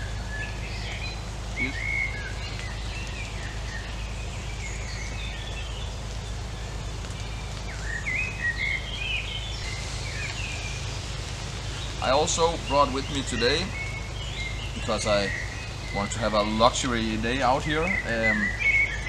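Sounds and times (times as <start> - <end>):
birds chirping and singing: 0.0 - 19.0.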